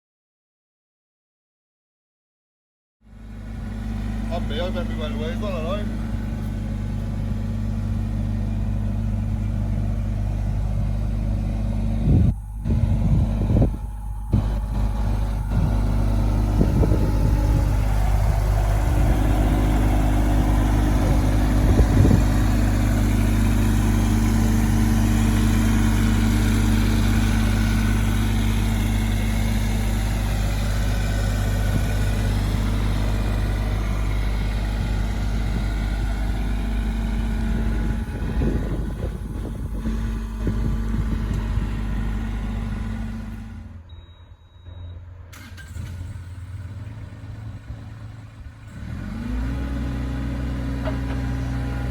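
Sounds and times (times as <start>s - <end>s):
excavator diesel engine running: 3.1s - 51.9s.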